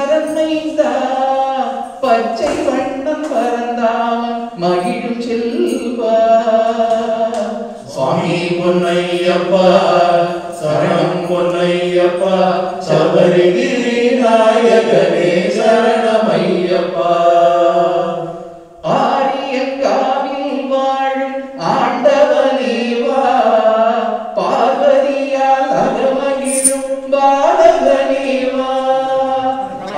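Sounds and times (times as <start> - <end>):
voices chanting devotional song: 0.0 - 29.9.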